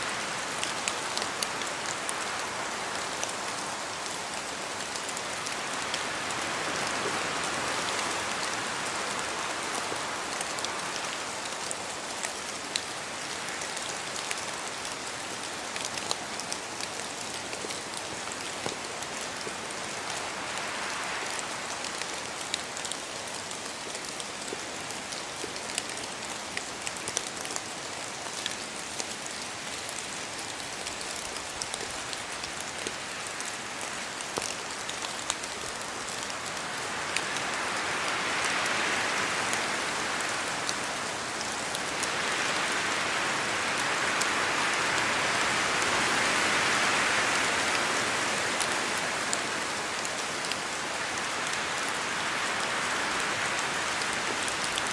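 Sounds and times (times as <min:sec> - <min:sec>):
rain pattering in forest: 0:00.0 - 0:54.9.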